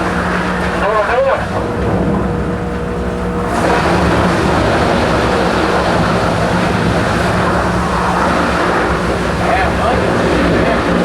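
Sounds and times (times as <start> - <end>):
wood chipper engine hum: 0.0 - 11.0.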